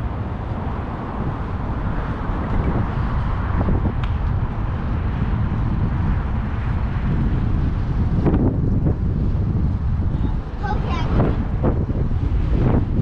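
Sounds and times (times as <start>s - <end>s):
road traffic noise: 0.0s - 13.0s
wind rumble on microphone: 0.0s - 13.0s.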